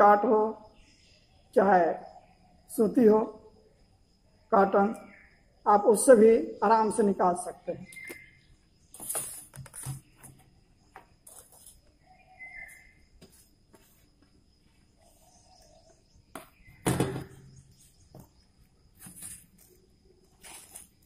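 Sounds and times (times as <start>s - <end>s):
faint bird chirps: 0.0s - 20.7s.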